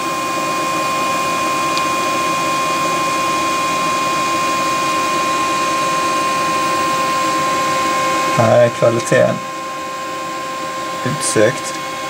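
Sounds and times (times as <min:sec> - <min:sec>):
mechanical whirring with high whine: 0:00.0 - 0:12.0.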